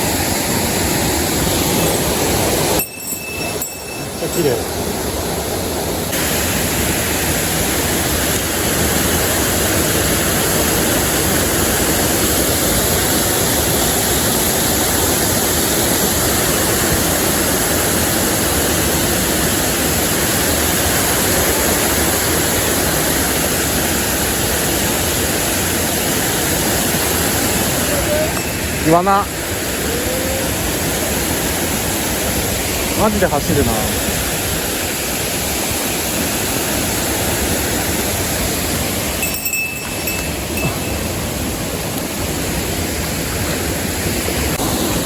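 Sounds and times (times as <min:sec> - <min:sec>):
water rushing over rocks: 0:00.0 - 0:45.0.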